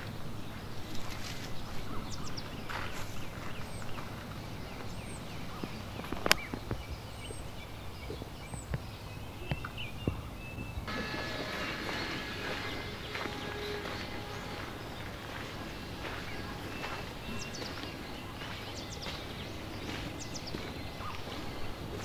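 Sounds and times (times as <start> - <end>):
footsteps on outdoor path: 0.0 - 7.4, 8.0 - 22.0
bird chirps: 0.0 - 22.0
outdoor hush: 0.0 - 22.0.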